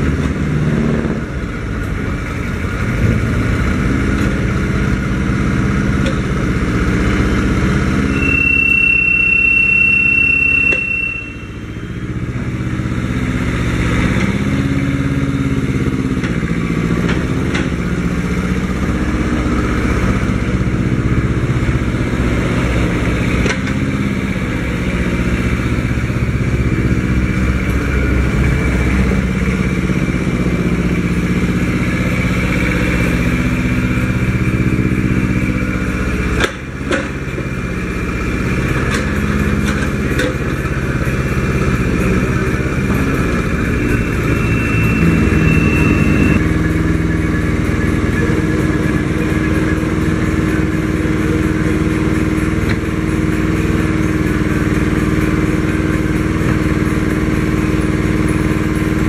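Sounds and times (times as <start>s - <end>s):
excavator engine under load: 0.0s - 59.0s
steady high whine: 1.0s - 14.1s, 17.6s - 40.0s, 40.6s - 59.0s.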